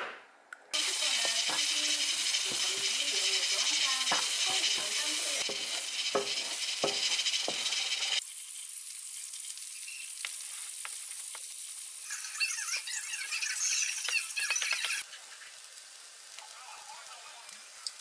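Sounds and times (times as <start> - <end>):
egg frying: 0.7 - 18.0
vegetables sizzling in a frying pan: 0.8 - 18.0.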